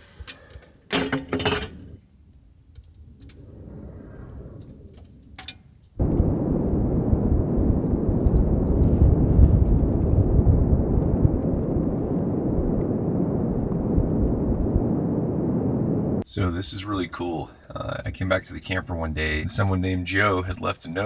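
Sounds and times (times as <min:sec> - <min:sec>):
blizzard wind buffeting microphone: 0:02.0 - 0:20.6.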